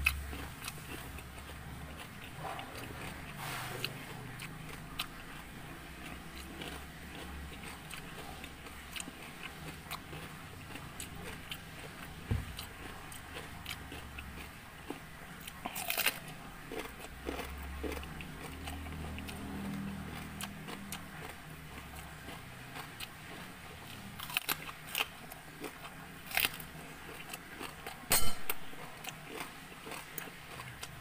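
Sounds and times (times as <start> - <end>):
person chewing with mouth smacks: 0.0 - 31.0.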